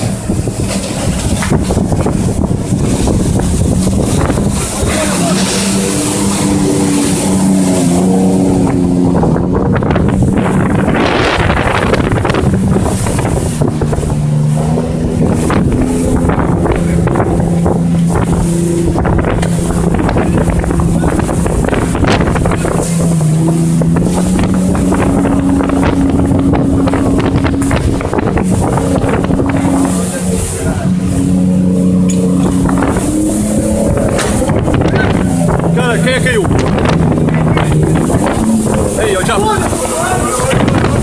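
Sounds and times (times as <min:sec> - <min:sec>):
boat engine running: 0:00.0 - 0:41.0
water rushing along hull: 0:00.0 - 0:41.0
wind buffeting microphone: 0:00.0 - 0:41.0.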